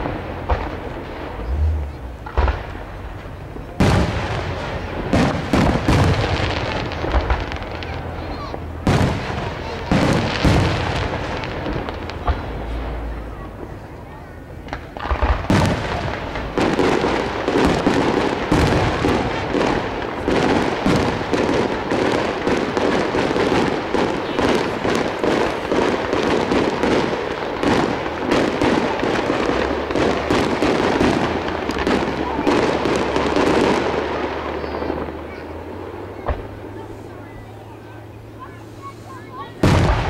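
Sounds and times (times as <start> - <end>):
fireworks cracking and popping: 0.0 - 40.0.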